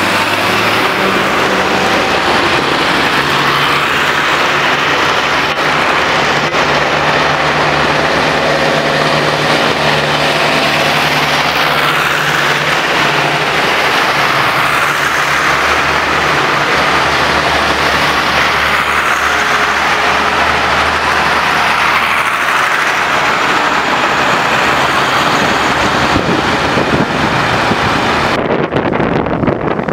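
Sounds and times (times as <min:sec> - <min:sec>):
tyres hissing on wet road: 0:00.0 - 0:28.4
tractor diesel engines passing: 0:00.0 - 0:29.9.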